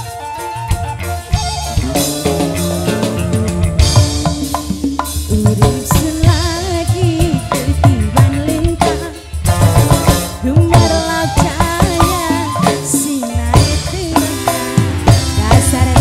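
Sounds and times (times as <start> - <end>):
band with drums keyboard guitars: 0.0 - 16.0
woman singing: 1.8 - 9.4, 10.4 - 16.0.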